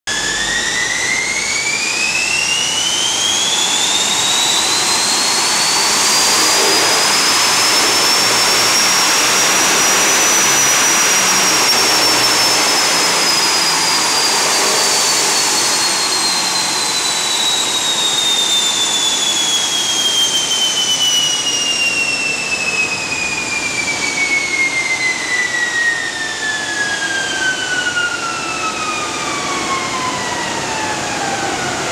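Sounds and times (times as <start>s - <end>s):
engine and drivetrain noise: 0.1s - 31.9s
high whine of dyno rollers: 0.1s - 31.9s.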